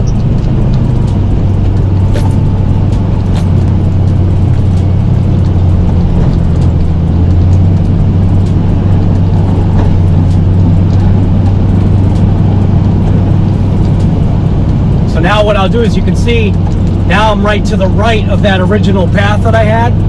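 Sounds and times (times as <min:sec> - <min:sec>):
truck engine humming: 0:00.0 - 0:20.0.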